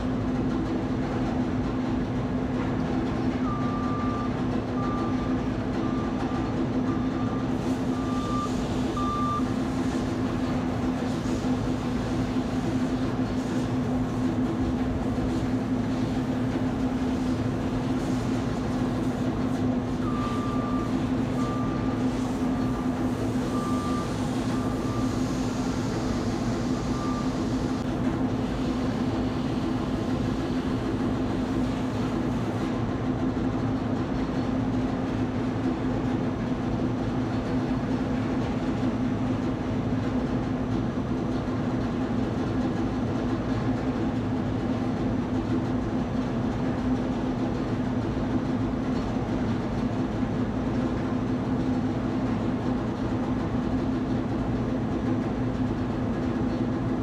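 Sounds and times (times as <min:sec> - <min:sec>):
heavy machinery humming: 0:00.0 - 0:45.8.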